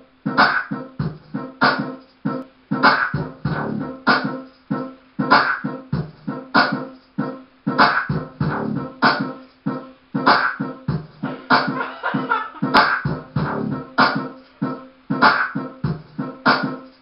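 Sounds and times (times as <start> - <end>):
dance music with steady beat: 0.0 - 17.0.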